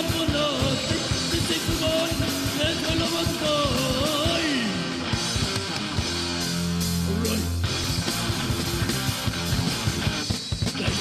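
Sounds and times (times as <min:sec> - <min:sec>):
punk rock instrumental: 0:00.0 - 0:11.0.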